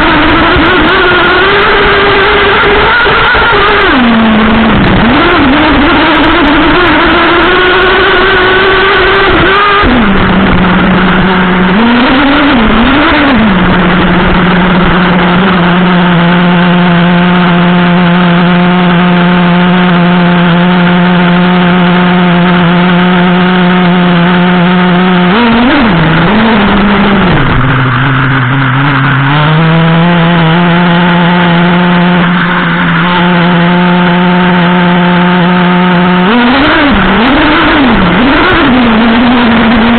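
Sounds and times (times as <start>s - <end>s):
nitro engine revving and idling: 0.0s - 39.9s.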